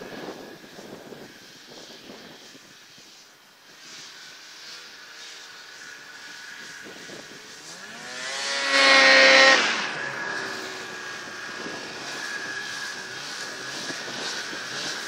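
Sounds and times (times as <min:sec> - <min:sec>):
snowmobile engine passing by: 0:00.0 - 0:15.0.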